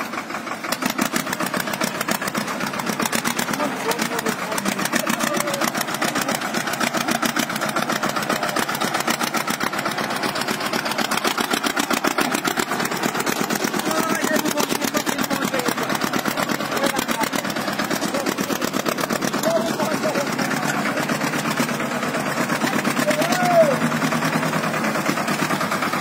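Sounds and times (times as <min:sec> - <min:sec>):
tractor diesel engine chugging: 0:00.0 - 0:26.0.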